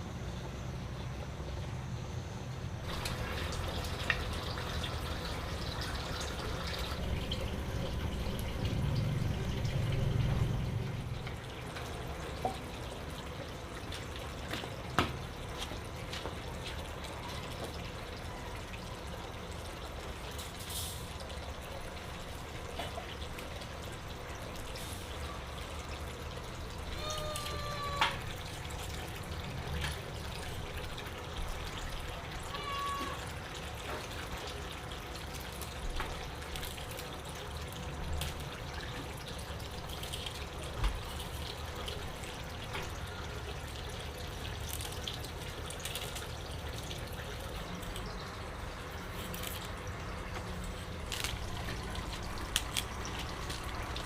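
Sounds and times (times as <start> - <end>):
water trickling and dripping: 2.8 - 54.0.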